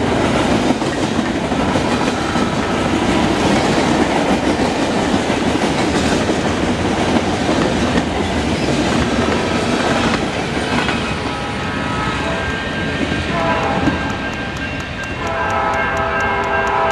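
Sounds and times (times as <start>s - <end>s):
freight train wheels rumbling: 0.0s - 16.9s.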